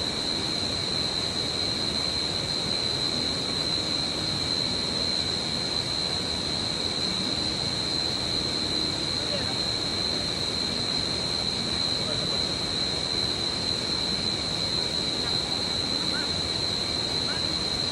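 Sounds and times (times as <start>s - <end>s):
constant hiss: 0.0s - 17.9s
high-pitched whine: 0.0s - 17.9s.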